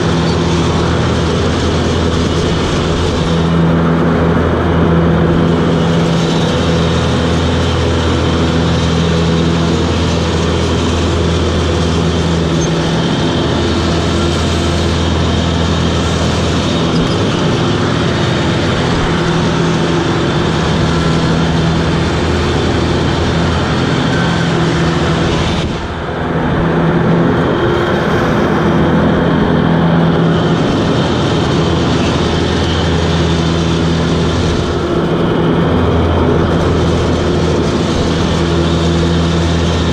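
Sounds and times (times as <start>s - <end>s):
mower blades cutting grass: 0.0s - 39.9s
ride-on mower engine drone: 0.0s - 39.9s.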